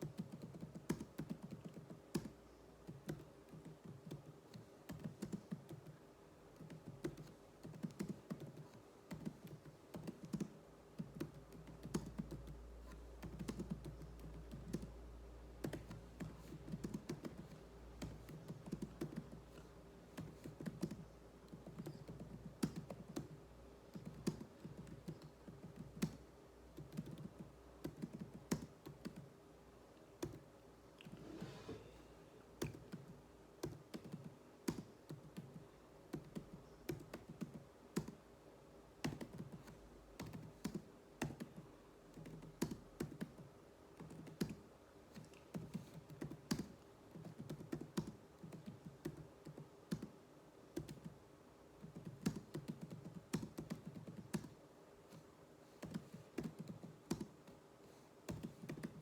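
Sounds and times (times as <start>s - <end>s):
computer keyboard typing: 0.1s - 6.0s, 6.6s - 14.9s, 15.6s - 26.2s, 26.8s - 29.3s, 32.6s - 38.2s, 39.0s - 41.6s, 42.2s - 44.6s, 45.2s - 50.1s, 50.8s - 51.2s, 51.8s - 54.6s, 55.8s - 57.6s, 58.3s - 59.0s.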